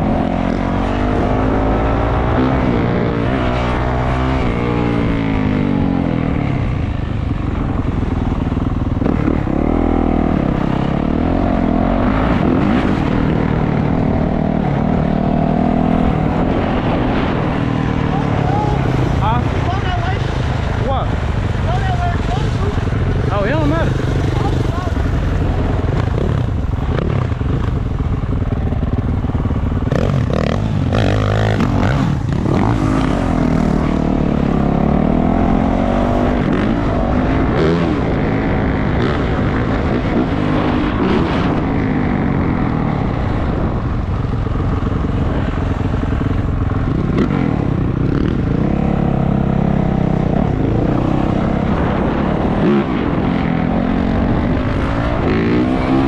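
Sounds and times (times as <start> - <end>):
dirt bike engine revving: 7.7 - 43.8, 44.7 - 56.0.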